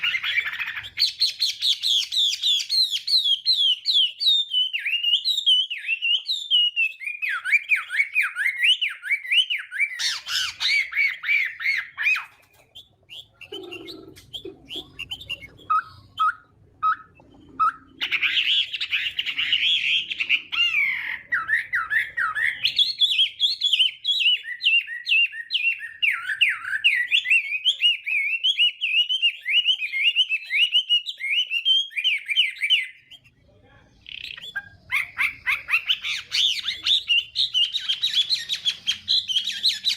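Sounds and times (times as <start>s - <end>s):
songbird whistling song: 0.0s - 33.4s, 34.0s - 39.9s.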